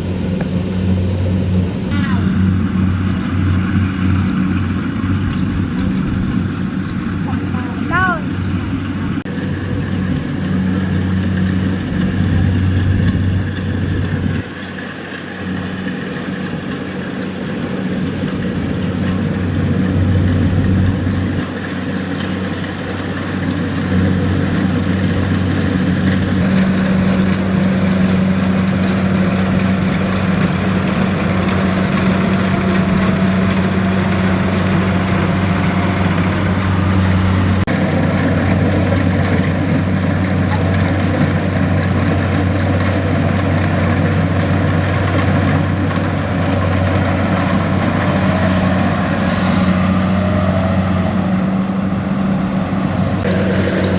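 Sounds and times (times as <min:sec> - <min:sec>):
combine harvester diesel engine: 0:00.0 - 0:53.9.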